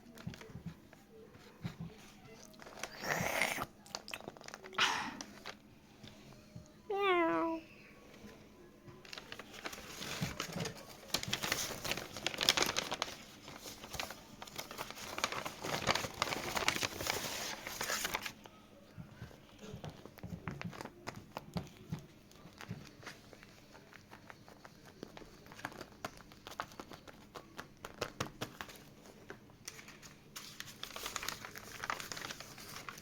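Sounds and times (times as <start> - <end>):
crinkly material crackling: 0.0 - 33.0.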